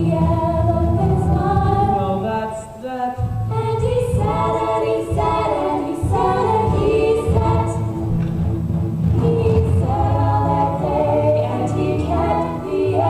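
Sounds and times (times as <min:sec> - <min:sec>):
girls singing together: 0:00.0 - 0:08.1, 0:09.1 - 0:13.0
low musical accompaniment: 0:00.0 - 0:13.0.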